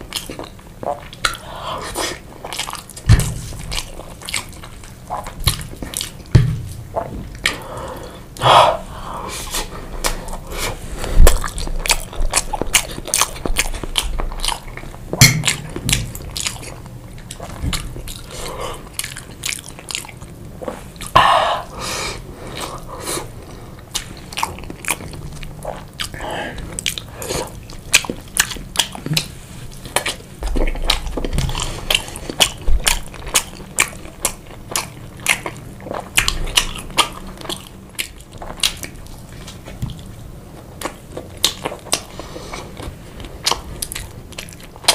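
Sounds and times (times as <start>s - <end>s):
person chewing: 0.0s - 44.9s.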